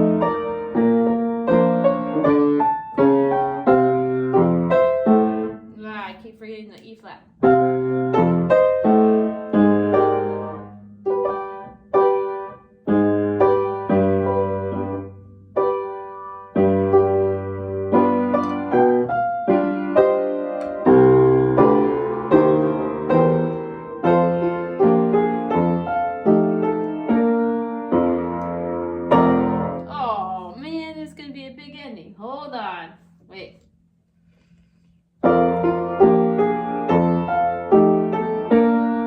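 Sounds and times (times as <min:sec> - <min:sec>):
piano chords: 0:00.0 - 0:06.1, 0:06.7 - 0:32.4, 0:35.2 - 0:39.0.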